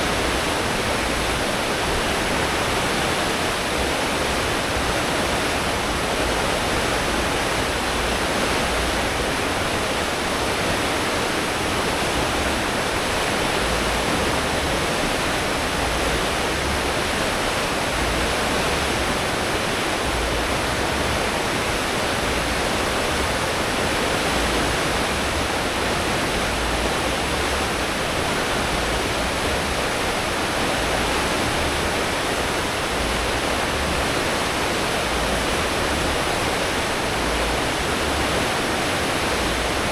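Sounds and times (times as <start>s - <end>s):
ship wake rushing: 0.0s - 39.9s.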